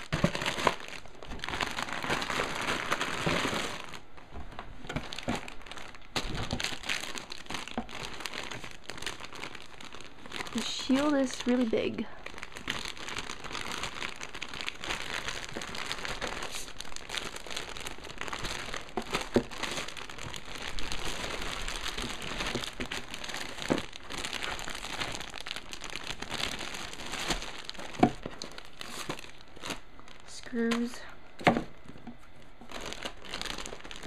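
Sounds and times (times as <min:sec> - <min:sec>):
plastic bags crinkling: 0:00.0 - 0:34.0.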